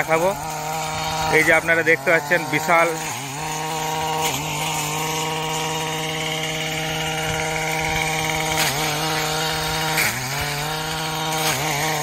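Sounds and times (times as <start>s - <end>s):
grass cutter engine running: 0.0s - 12.0s.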